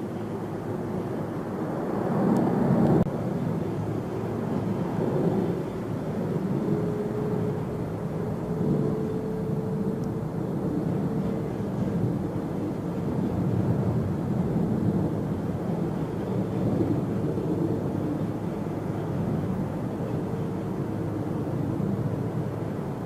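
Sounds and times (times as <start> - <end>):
jet engines rumbling: 0.0 - 23.0
faint steady hum: 2.3 - 23.0.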